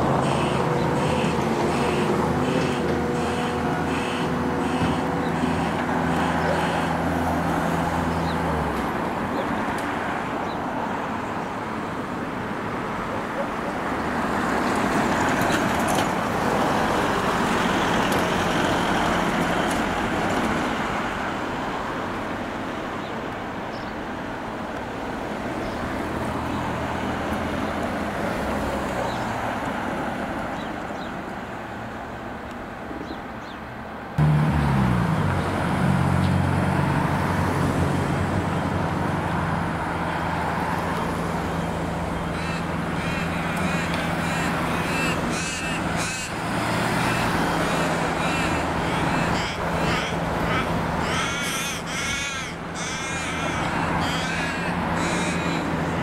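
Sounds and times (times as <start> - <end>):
passing cars: 0.0 - 56.0.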